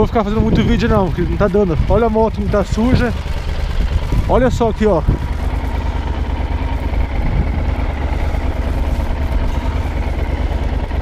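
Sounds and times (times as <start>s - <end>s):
motorcycle engine idling: 0.0s - 11.0s
wind buffeting microphone: 0.0s - 11.0s.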